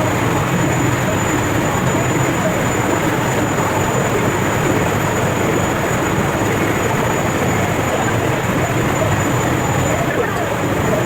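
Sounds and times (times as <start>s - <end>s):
boiler plant machinery noise: 0.0s - 11.0s.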